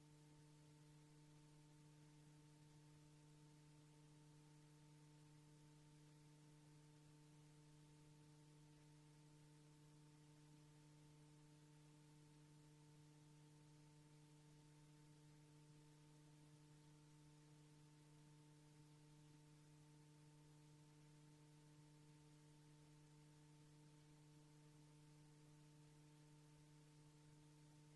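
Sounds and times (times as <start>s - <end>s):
faint electrical hum: 0.0s - 27.9s.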